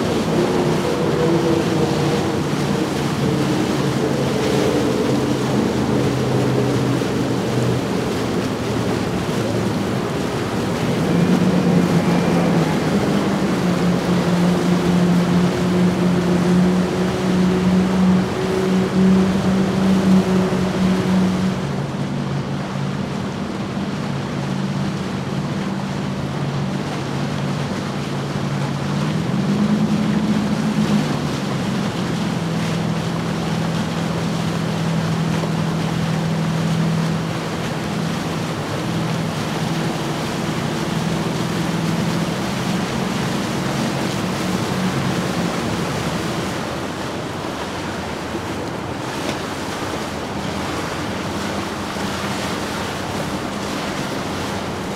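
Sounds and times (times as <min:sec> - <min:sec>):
outboard motor hum: 0:00.0 - 0:54.9
water wash: 0:00.0 - 0:54.9
wind on microphone: 0:00.0 - 0:54.9.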